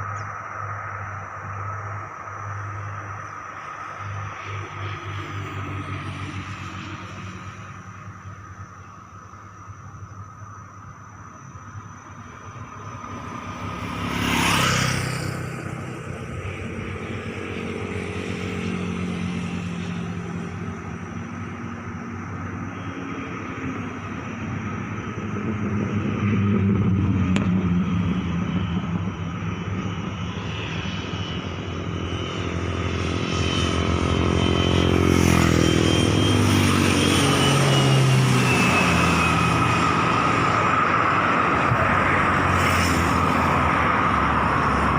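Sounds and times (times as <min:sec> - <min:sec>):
high-pitched whine: 0:00.0 - 0:44.9
propeller plane engine droning: 0:00.0 - 0:44.9.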